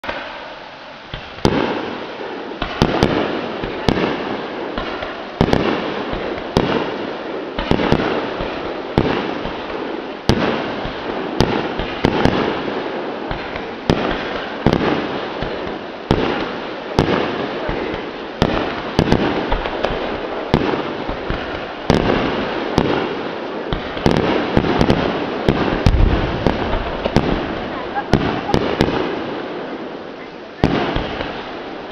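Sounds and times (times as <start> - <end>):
fireworks bangs: 0.0 - 31.9
fireworks crackling and rumble: 0.0 - 31.9.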